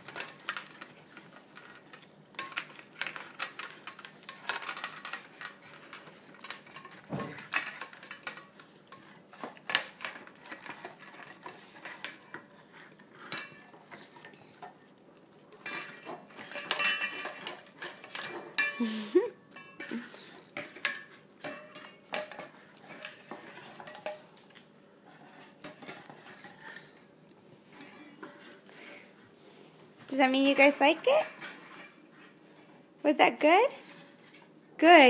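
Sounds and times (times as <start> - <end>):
metal bowls clinking and rattling: 0.0 - 35.0.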